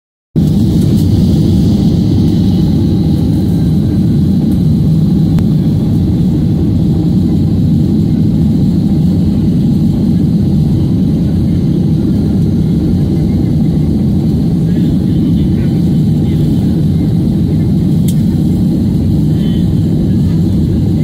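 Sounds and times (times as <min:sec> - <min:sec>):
jet engines rumbling: 0:00.4 - 0:21.0.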